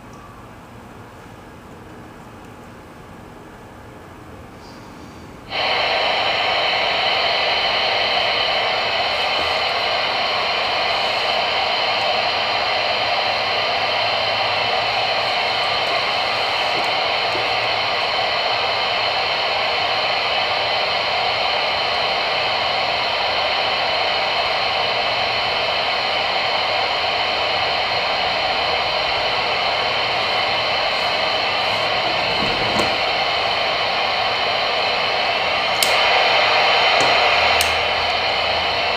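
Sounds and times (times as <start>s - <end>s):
radio static hiss: 5.0s - 38.9s
radio knobs turning: 5.5s - 38.9s.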